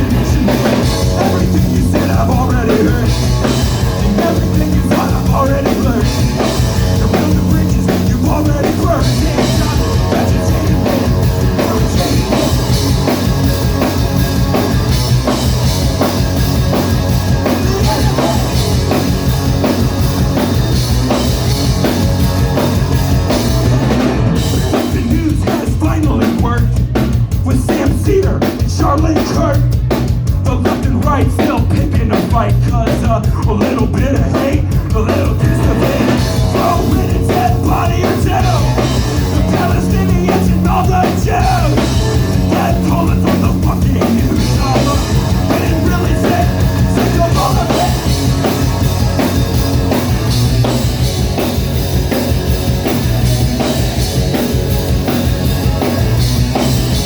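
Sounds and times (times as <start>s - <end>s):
drum kit beat: 0.0s - 57.0s
live rock band playing: 0.0s - 57.0s.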